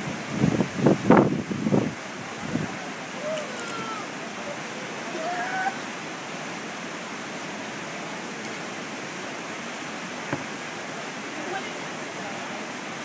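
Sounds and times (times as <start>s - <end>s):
water rushing through rocky gorge: 0.0s - 13.0s.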